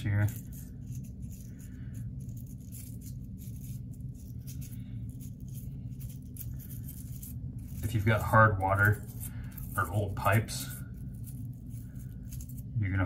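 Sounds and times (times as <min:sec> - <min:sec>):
low steady hum: 0:00.0 - 0:13.0
toothbrush scrubbing plastic: 0:00.0 - 0:13.0.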